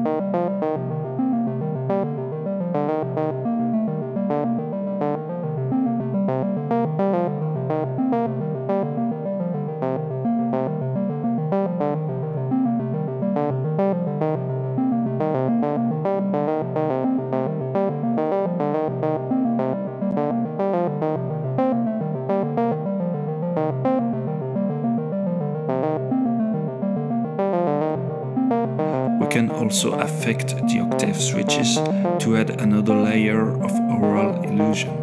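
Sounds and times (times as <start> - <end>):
synthesizer plucked note sequence: 0.0 - 35.0.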